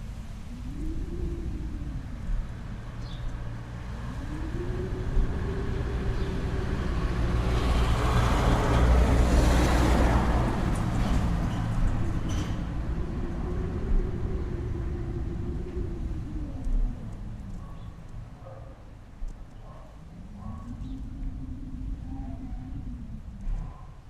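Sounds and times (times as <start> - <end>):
road vehicle passing: 0.0 - 24.0.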